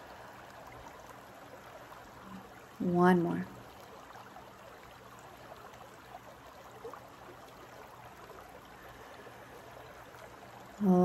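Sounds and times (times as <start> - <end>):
creek flowing over rocks: 0.0 - 11.0.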